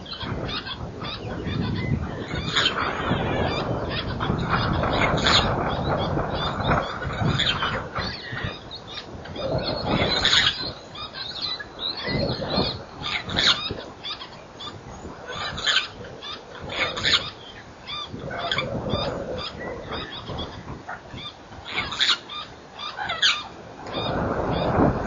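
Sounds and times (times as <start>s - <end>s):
bird chatter: 0.0s - 25.0s
harsh bird calls: 0.0s - 25.0s.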